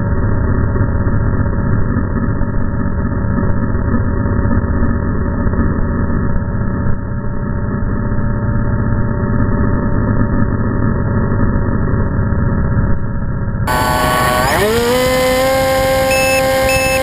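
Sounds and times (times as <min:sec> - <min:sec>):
low steady motor drone: 0:00.0 - 0:17.0.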